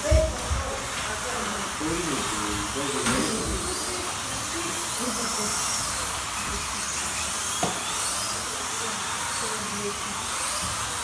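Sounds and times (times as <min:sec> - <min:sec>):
slot car motors whining: 0:00.8 - 0:11.0.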